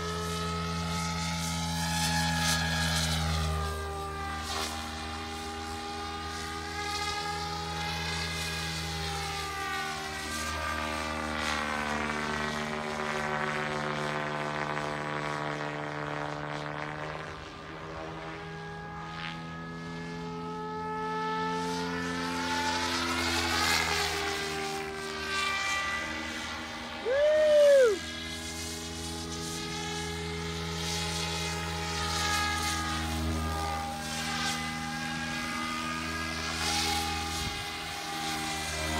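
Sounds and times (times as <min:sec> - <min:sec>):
model helicopter drone: 0:00.0 - 0:38.9.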